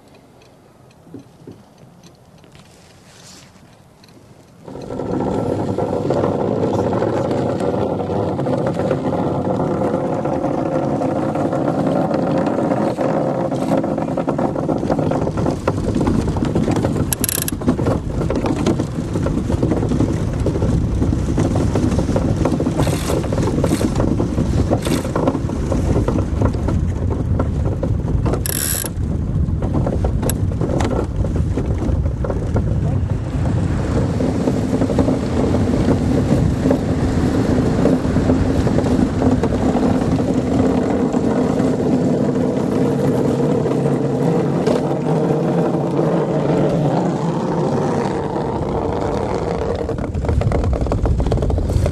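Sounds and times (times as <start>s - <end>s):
steel runners rumbling over ice: 2.4s - 51.9s.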